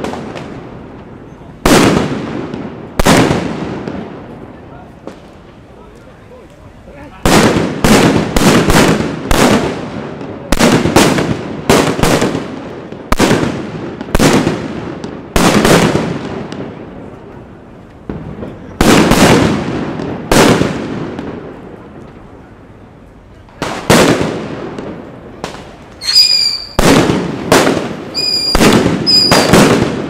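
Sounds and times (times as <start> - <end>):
firecrackers exploding with echo: 0.0 - 30.0.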